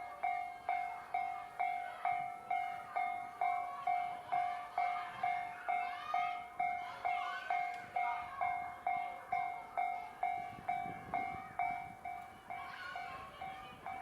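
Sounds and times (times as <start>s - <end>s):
level crossing warning bell: 0.0s - 14.0s.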